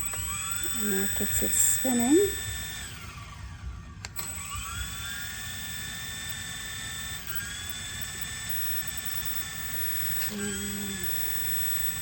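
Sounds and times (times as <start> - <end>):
toy helicopter motor whining: 0.0 - 12.0.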